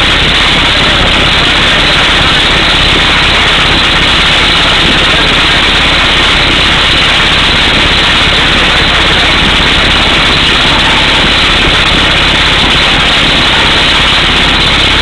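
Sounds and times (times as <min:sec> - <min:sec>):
engine running: 0:00.0 - 0:15.0
rushing exhaust air: 0:00.0 - 0:15.0.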